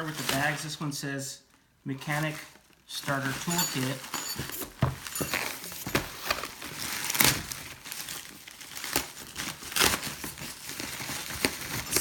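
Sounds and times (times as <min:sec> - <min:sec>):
bag crinkling and rustling: 0:02.0 - 0:12.0.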